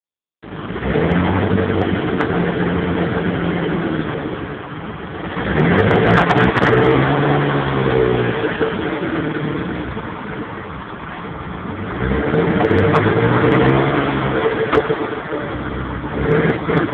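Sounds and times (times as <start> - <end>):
car engine revving: 0.4 - 16.9.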